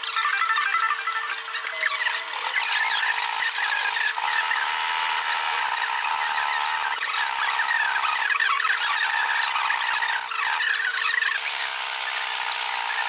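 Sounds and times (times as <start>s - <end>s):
electric sewing machine running: 1.1s - 13.0s.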